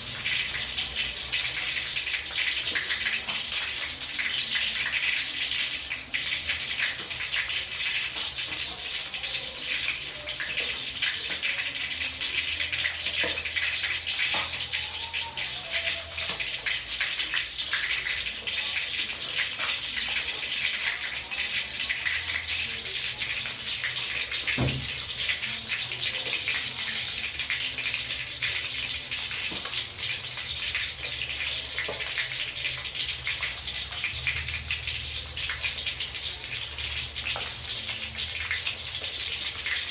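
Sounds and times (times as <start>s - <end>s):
oil sizzling and crackling: 0.0s - 39.9s.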